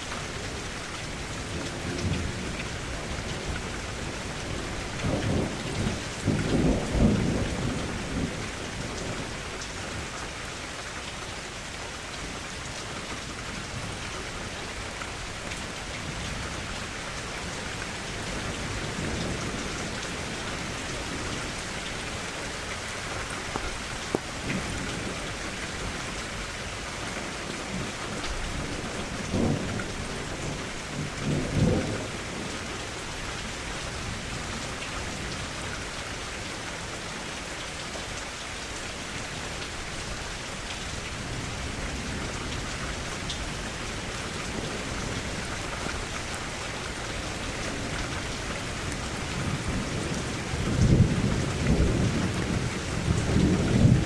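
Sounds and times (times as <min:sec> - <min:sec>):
rain against a window: 0:00.0 - 0:54.0.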